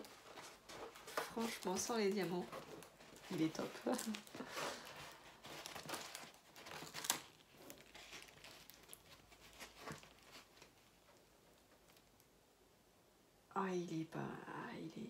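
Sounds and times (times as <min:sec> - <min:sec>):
plastic film crinkling: 0:00.0 - 0:12.3.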